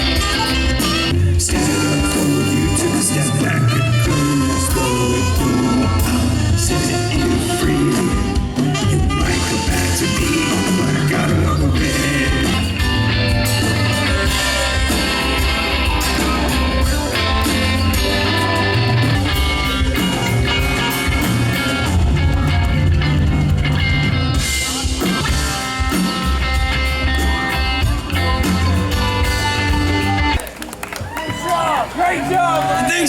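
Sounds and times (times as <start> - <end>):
electric guitar: 0.0 - 30.4
steady bass line: 0.0 - 30.4
live rock band playing: 0.0 - 30.8.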